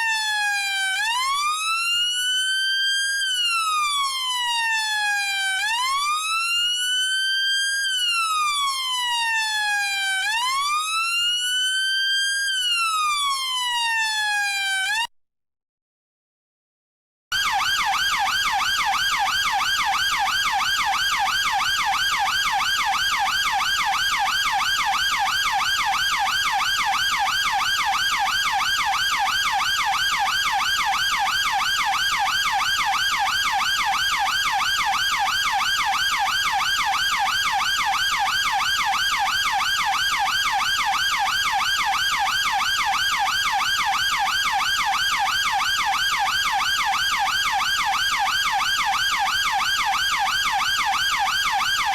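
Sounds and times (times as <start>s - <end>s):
police siren yelp: 0.0s - 15.1s, 17.3s - 51.9s.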